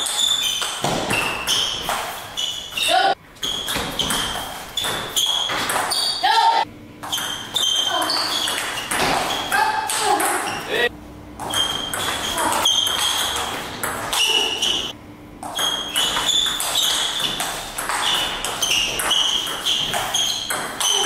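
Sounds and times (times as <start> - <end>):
table tennis ball hits: 0.0 - 2.8, 3.4 - 6.2, 7.0 - 10.7, 11.4 - 21.0.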